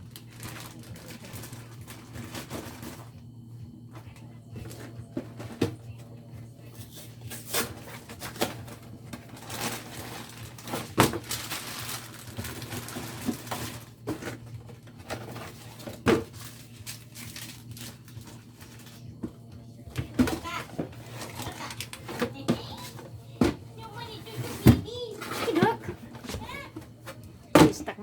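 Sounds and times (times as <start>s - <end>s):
plastic packaging rustling: 0.0s - 3.2s, 6.6s - 27.9s
steady low hum: 0.0s - 28.0s.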